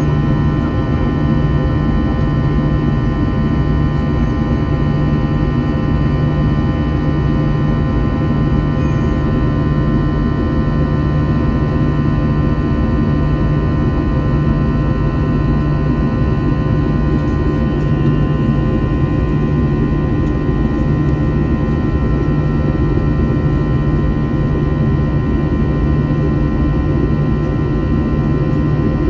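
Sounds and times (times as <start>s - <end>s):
jet engine cabin drone: 0.0s - 29.0s.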